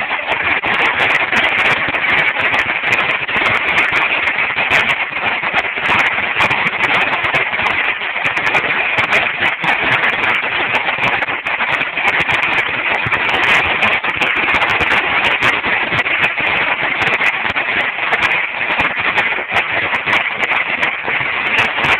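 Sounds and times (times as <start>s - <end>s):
firecracker string bangs: 0.0s - 21.9s.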